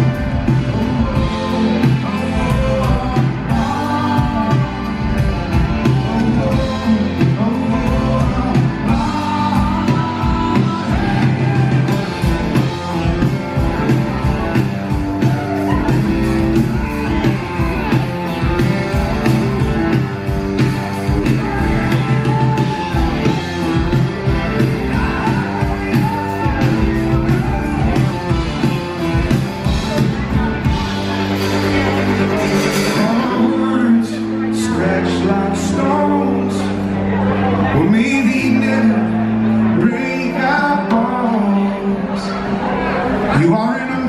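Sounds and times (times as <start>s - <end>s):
man singing: 0.0s - 14.3s, 15.2s - 30.0s, 31.5s - 42.6s, 43.2s - 44.0s
live rock band playing: 0.0s - 44.0s.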